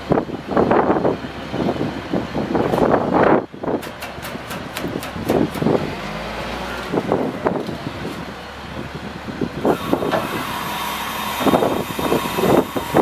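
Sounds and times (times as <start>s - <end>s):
diesel engine running hydraulics: 0.0s - 13.0s.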